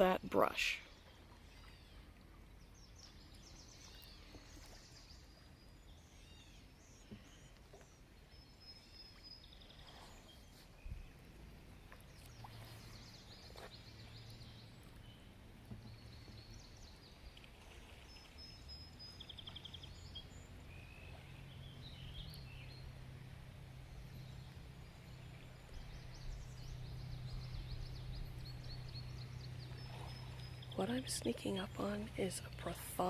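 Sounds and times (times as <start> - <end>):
low steady hum: 0.0 - 33.0
songbirds singing: 0.0 - 33.0.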